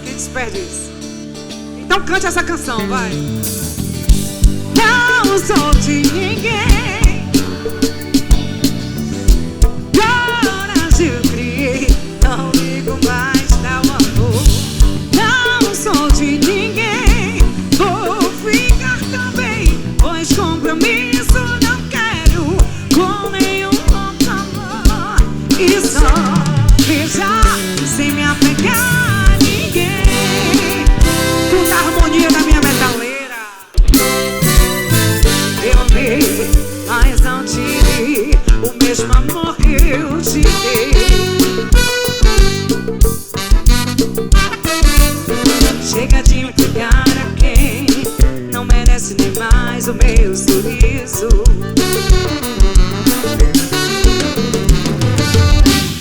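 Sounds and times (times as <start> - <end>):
bass: 0.0 - 56.0
live band playing: 0.0 - 56.0.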